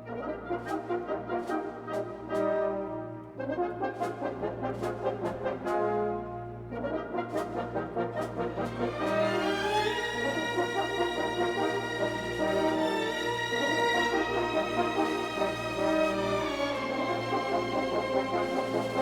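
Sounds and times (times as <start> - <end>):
brass-like held chords: 0.0 - 19.0.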